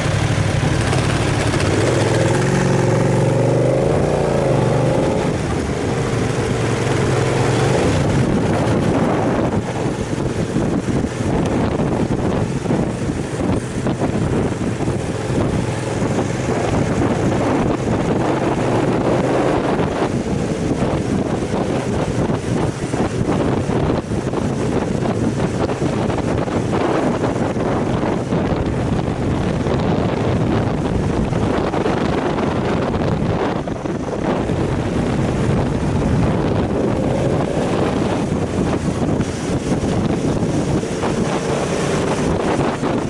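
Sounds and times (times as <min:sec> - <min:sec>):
motorcycle engine running: 0:00.0 - 0:43.0
wind buffeting microphone: 0:00.0 - 0:43.0.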